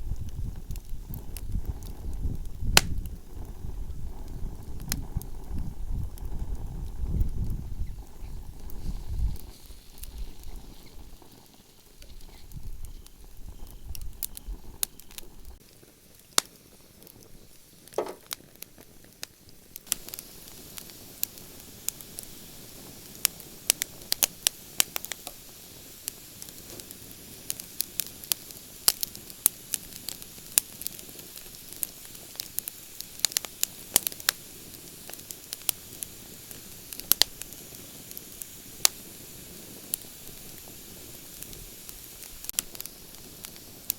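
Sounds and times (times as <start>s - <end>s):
campfire crackling and popping: 0.0s - 43.9s
steady hiss: 0.0s - 43.9s.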